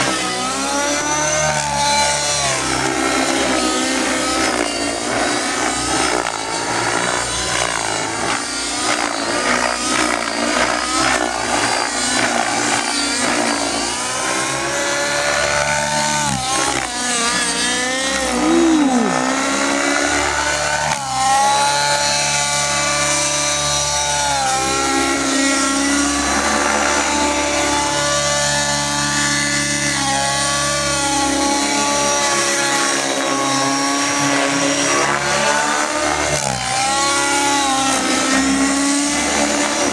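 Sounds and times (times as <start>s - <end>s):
model helicopter engine at high speed: 0.0s - 39.9s.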